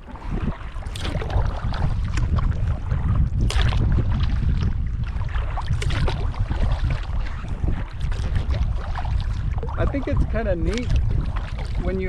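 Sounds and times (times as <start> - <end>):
paddle strokes splashing water: 0.0 - 12.0
wind buffeting microphone: 0.0 - 12.0.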